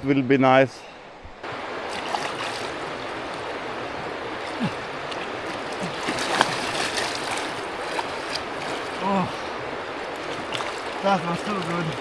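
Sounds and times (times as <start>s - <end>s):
stream water rushing: 0.9s - 12.0s.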